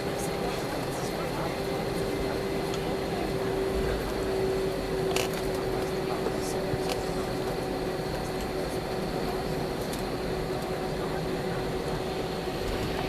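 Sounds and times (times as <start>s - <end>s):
airliner cabin engine hum: 0.0s - 13.0s.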